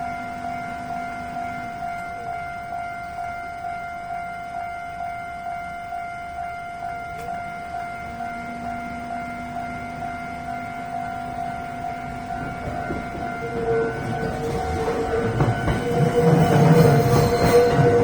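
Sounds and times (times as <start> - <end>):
level crossing warning bell: 0.0 - 18.0.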